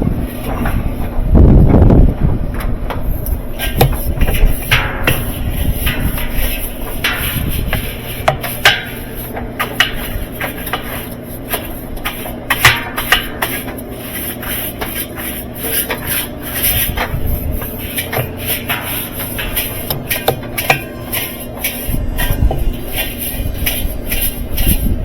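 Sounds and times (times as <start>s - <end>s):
low steady hum: 0.0s - 25.0s
hard parts knocking and scraping: 0.3s - 25.0s.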